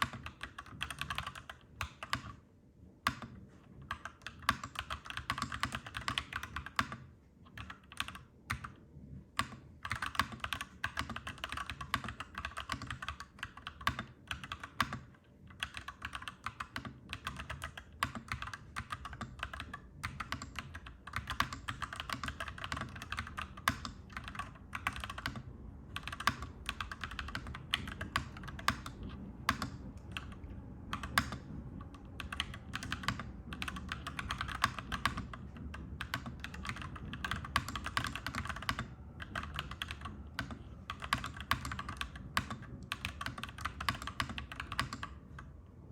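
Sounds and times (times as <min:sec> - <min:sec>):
mechanical keyboard typing: 0:00.0 - 0:02.4, 0:03.0 - 0:45.5.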